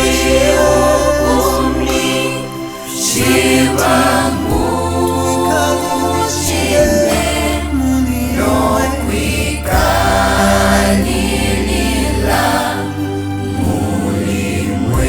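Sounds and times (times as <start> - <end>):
bass accompaniment: 0.0 - 15.0
choir singing gospel: 0.0 - 15.0.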